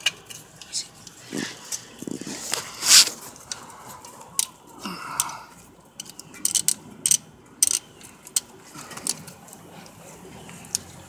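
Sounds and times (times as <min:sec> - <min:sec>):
clicks and clacks of tools and parts: 0:00.0 - 0:10.9.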